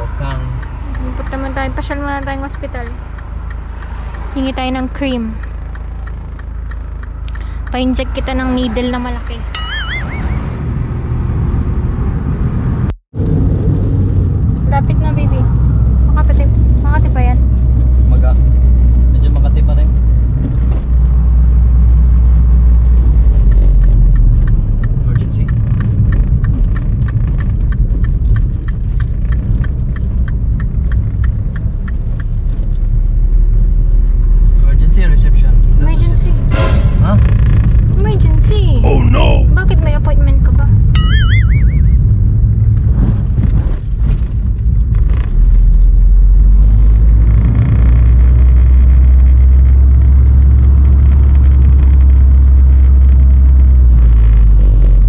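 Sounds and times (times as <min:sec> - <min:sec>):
turn signal ticking: 0:00.0 - 0:10.8, 0:13.2 - 0:36.4, 0:37.5 - 0:55.0
car road and engine rumble: 0:00.0 - 0:55.0.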